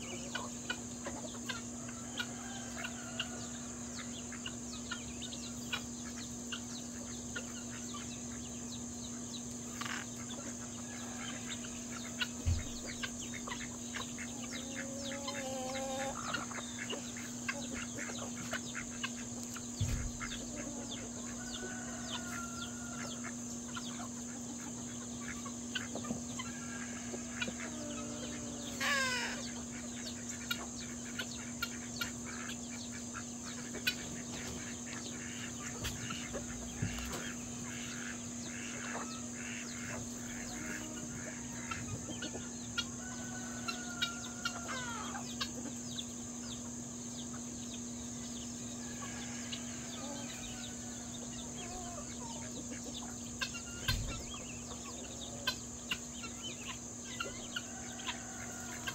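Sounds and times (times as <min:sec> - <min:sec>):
poultry clucking and calling: 0:00.0 - 0:58.9.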